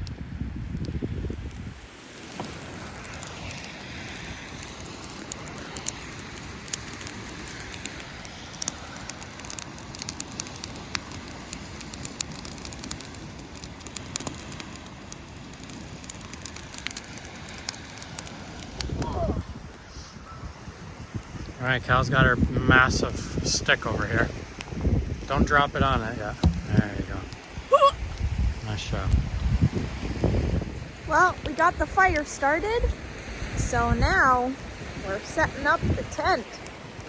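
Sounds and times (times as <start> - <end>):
campfire crackling and popping: 0.0 - 37.0
fire hissing: 0.3 - 37.0.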